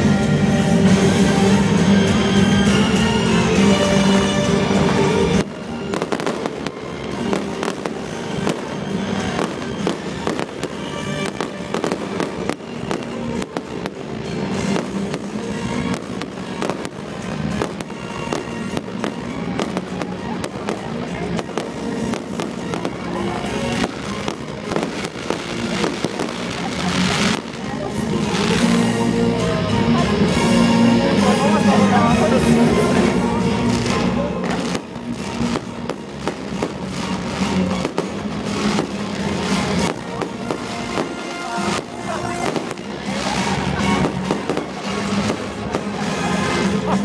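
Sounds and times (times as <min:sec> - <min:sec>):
fireworks bangs and crackles: 0:00.0 - 0:47.0
music: 0:00.0 - 0:47.0.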